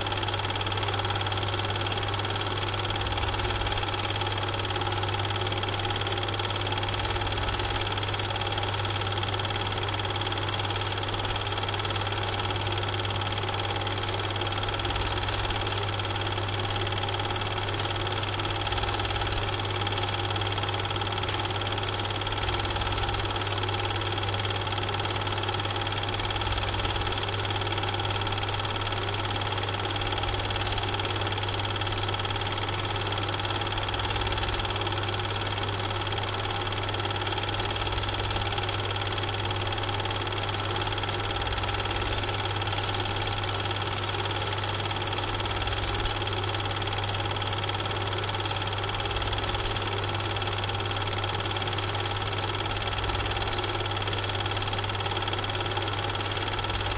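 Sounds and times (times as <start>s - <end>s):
mechanical hum with low throb: 0.0s - 56.9s.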